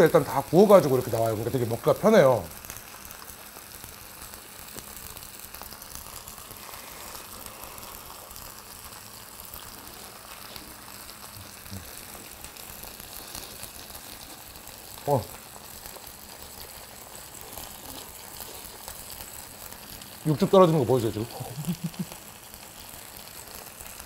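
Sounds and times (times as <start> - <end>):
ribs sizzling on hot plate: 0.0 - 24.0.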